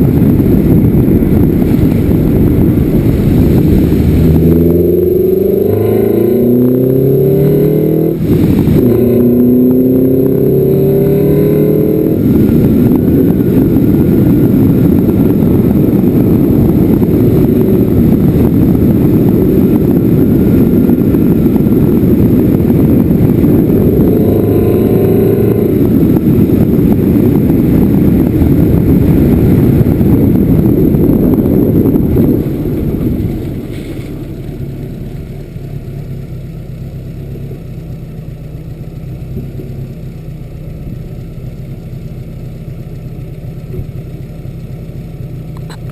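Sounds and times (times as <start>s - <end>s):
low wind rumble on microphone: 0.0s - 45.9s
vehicle engine accelerating: 0.0s - 45.9s.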